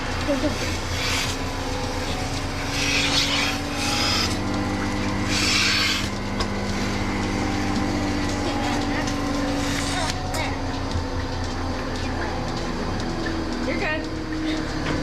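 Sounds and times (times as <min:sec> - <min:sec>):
milking machine pulsing hum: 0:00.0 - 0:15.0.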